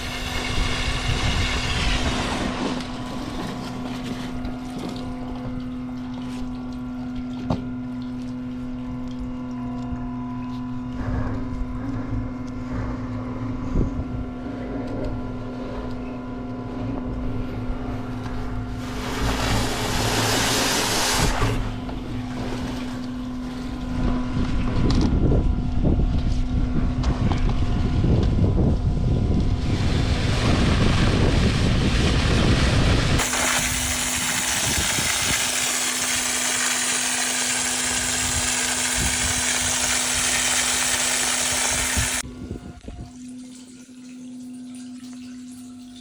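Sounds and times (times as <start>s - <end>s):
vacuum pump truck running: 0.0s - 15.0s, 16.6s - 25.8s, 27.2s - 42.8s.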